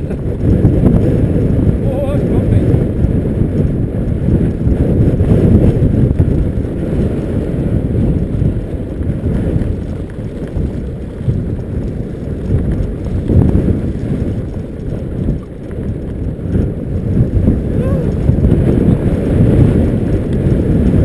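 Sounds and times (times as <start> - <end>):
board wheels rolling over grass: 0.0 - 21.0
wind buffeting microphone: 0.0 - 21.0.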